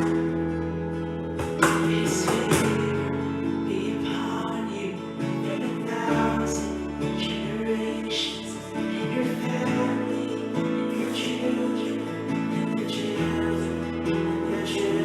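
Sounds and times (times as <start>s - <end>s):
guitar chords strummed: 0.0s - 15.0s
worship music: 0.0s - 15.0s.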